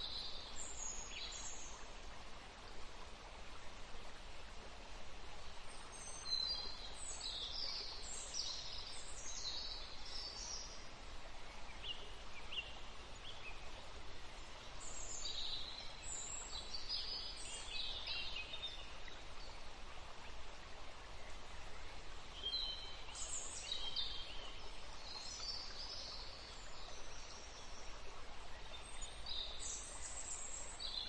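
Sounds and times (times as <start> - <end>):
steady background hiss: 0.0 - 31.0.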